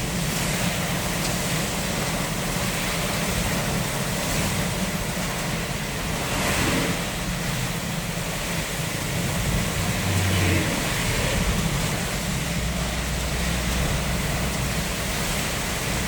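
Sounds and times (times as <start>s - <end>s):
rain: 0.0s - 16.0s
wet road noise: 0.0s - 16.0s.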